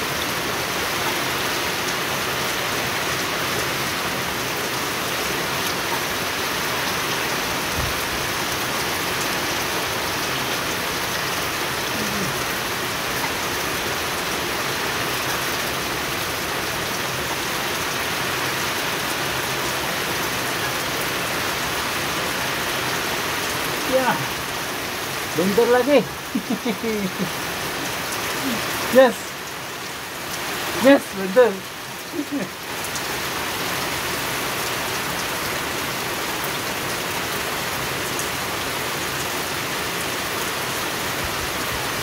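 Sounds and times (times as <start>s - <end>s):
rain on pond water and stones: 0.0s - 42.0s.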